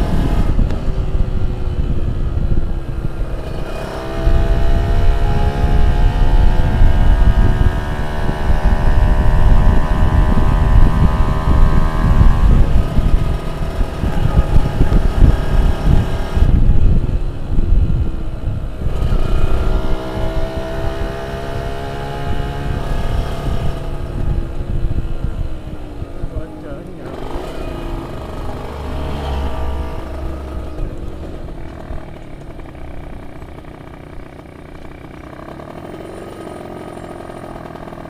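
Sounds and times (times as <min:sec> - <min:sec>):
heavy low rumble: 0:00.0 - 0:35.8
two-stroke motorcycle engine revving: 0:00.0 - 0:38.0.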